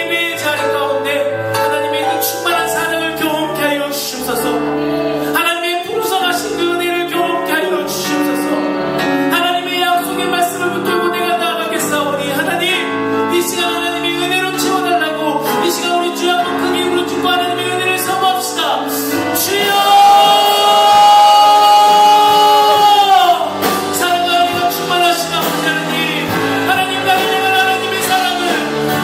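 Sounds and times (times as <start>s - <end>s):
instrumental accompaniment: 0.0s - 29.0s
person singing worship song: 0.0s - 29.0s.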